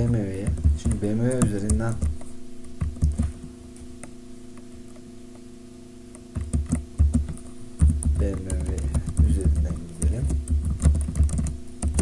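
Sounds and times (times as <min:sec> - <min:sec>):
keyboard keys clicking: 0:00.0 - 0:05.5, 0:06.1 - 0:12.0
steady low hum: 0:00.0 - 0:12.0.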